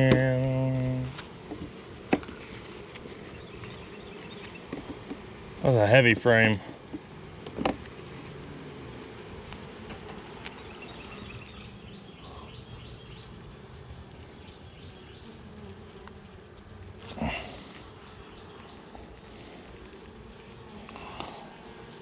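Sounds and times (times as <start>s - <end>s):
honey bees buzzing: 0.0s - 22.0s.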